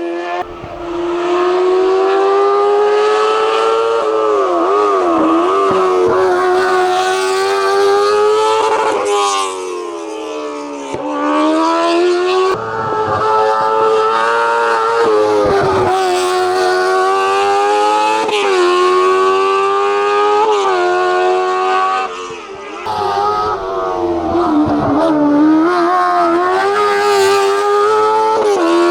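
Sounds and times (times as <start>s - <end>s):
racing car engine revving: 0.4s - 10.1s, 10.9s - 28.9s.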